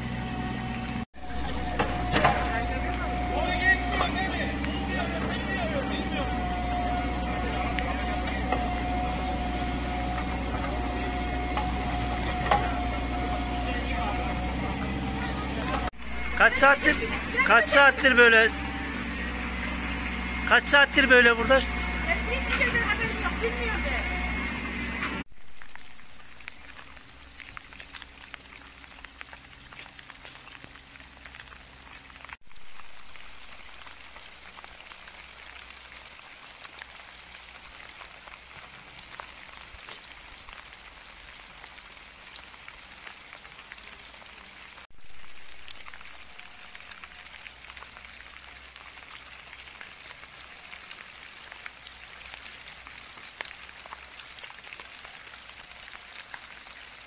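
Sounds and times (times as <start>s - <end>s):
light rain pattering: 1.1s - 24.0s, 25.2s - 57.0s.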